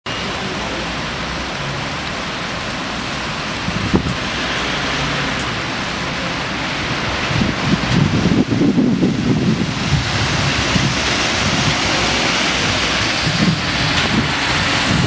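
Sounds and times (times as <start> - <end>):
wet-road traffic: 0.0 - 15.0
rain hiss: 0.1 - 15.0
bus engine running low: 0.2 - 15.0.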